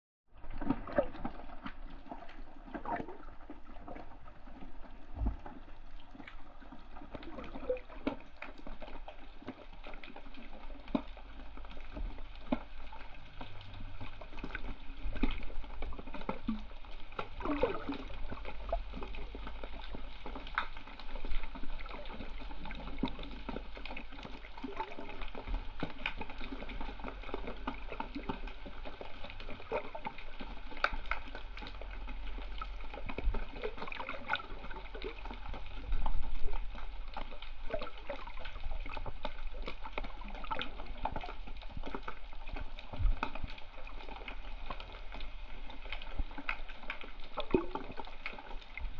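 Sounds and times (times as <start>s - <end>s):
crackles and clicks: 0.3s - 48.9s
seawater sloshing and bubbling: 0.3s - 48.9s.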